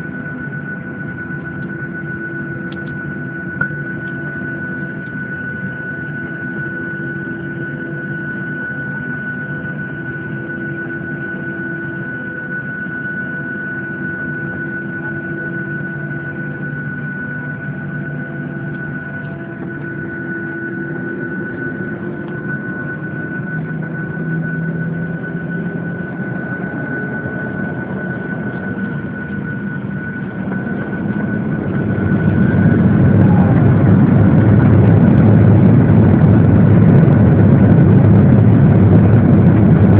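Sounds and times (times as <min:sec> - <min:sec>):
high engine whine: 0:00.0 - 0:39.9
jet engines droning in cabin: 0:00.0 - 0:39.9.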